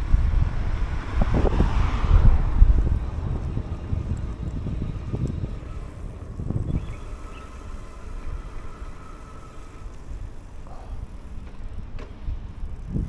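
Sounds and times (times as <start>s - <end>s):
low rumble of riding: 0.0s - 13.0s
wind buffeting microphone: 0.0s - 13.0s
faint steady whine: 2.2s - 13.0s.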